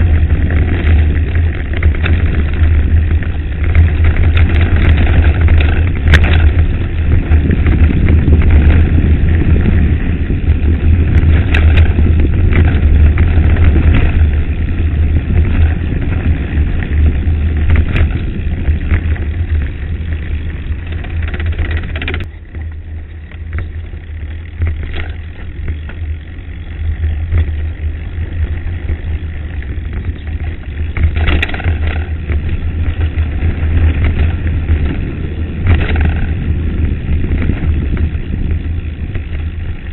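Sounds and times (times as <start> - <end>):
bike rattling: 0.0 - 39.9
tyres crunching over gravel: 0.0 - 39.9
wind buffeting microphone: 0.0 - 39.9.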